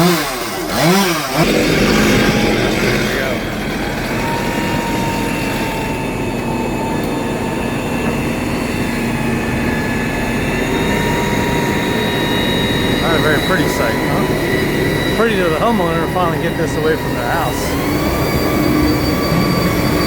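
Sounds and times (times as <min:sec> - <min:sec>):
chainsaw revving: 0:00.0 - 0:20.0
diesel machinery droning: 0:00.0 - 0:20.0
held hums: 0:00.0 - 0:20.0.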